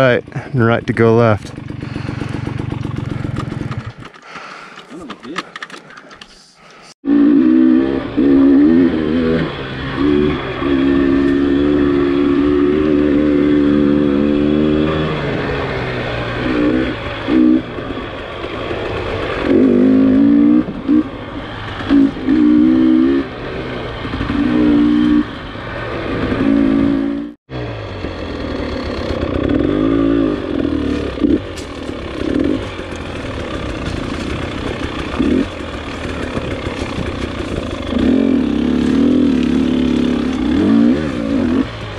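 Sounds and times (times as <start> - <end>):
dirt bike engine revving: 0.0 - 4.7, 7.0 - 41.9.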